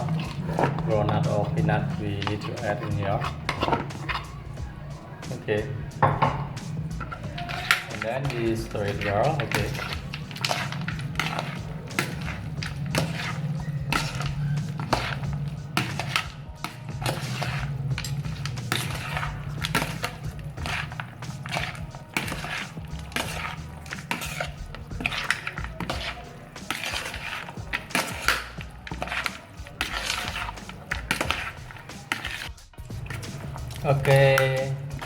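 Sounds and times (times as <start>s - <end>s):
utensil scraping a bowl: 0.0s - 35.0s.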